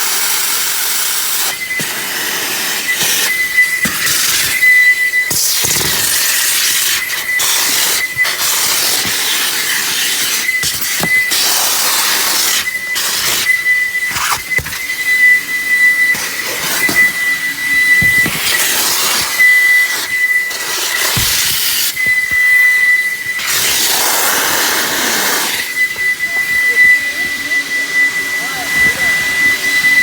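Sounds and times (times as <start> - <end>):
vacuum running: 0.0 - 30.0
high-pitched whistle: 0.4 - 30.0.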